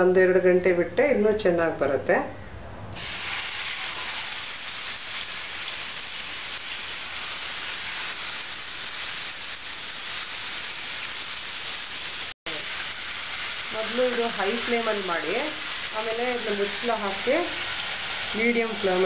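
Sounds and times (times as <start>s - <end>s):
chicken sizzling in a frying pan: 3.0s - 19.0s.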